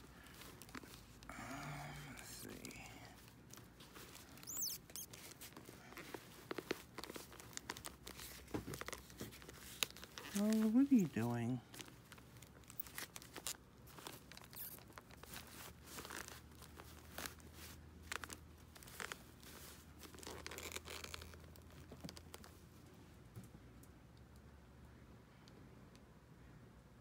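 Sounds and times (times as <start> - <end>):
fabric dress rustling: 0.0 - 22.6.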